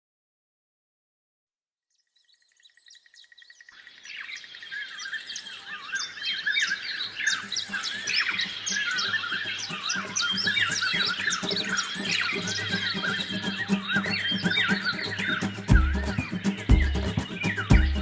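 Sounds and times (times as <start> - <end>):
small birds chirping and twittering: 1.9 - 18.0.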